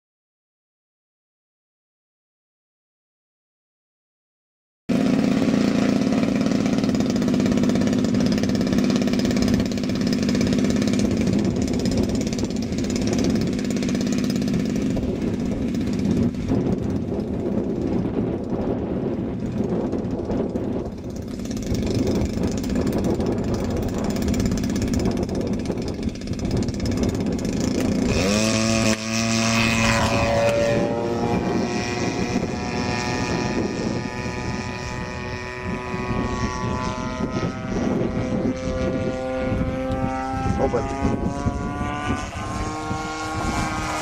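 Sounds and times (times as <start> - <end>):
model airplane engine: 4.9 - 44.0
wind noise on microphone: 5.0 - 44.0.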